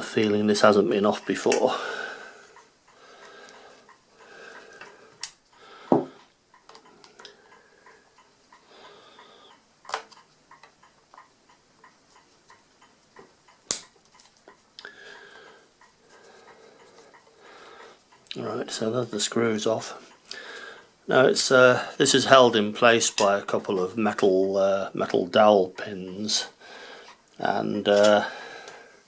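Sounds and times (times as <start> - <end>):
faint metallic ticking: 0.0 - 29.0.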